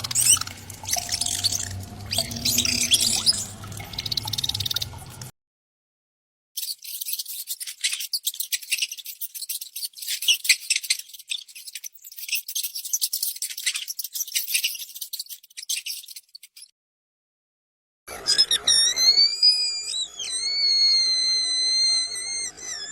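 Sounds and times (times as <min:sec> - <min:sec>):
mouse squeaking and chittering: 0:00.0 - 0:05.3, 0:06.6 - 0:16.7, 0:18.3 - 0:22.9.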